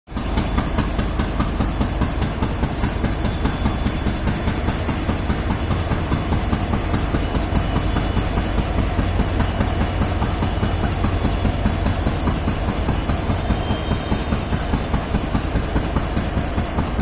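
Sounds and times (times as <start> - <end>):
diesel locomotive engine idling: 0.1 - 17.0.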